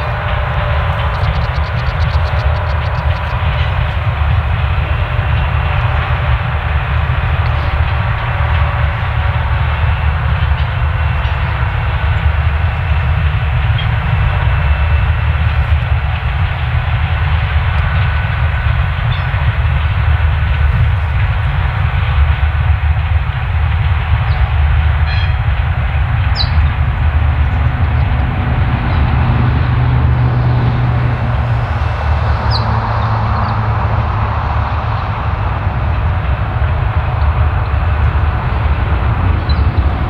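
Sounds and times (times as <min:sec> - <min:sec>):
freight train rumbling on rails: 0:00.0 - 0:40.0.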